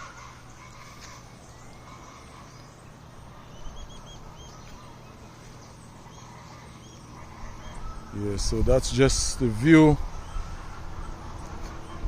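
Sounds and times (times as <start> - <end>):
birds chirping: 0.0 - 12.0
steady background hiss: 0.0 - 12.0.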